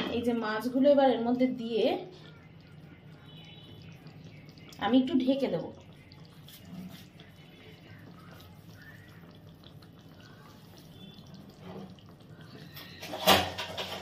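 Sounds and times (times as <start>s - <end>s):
curry bubbling in a pan: 0.0s - 14.0s
low steady hum: 0.0s - 14.0s.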